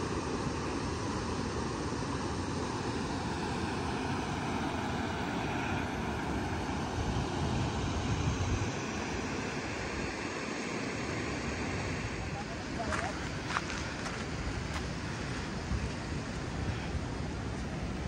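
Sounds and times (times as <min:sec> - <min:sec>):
river rushing over rapids: 0:00.0 - 0:18.0.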